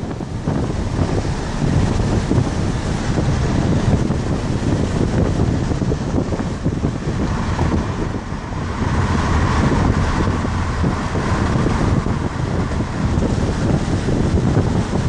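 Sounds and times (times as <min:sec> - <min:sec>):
car road noise rumble: 0:00.0 - 0:15.0
wind buffeting microphone: 0:00.0 - 0:15.0.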